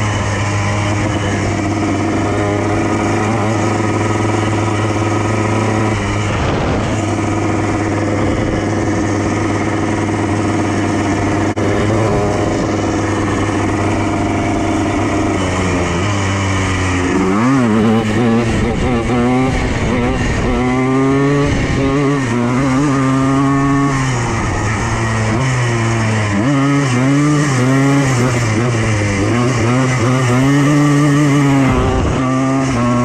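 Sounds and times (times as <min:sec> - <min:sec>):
two-stroke engine running: 0:00.0 - 0:33.0.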